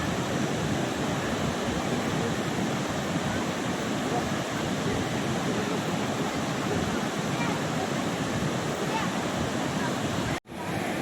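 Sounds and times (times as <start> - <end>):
large waterfall rushing: 0.0 - 11.0.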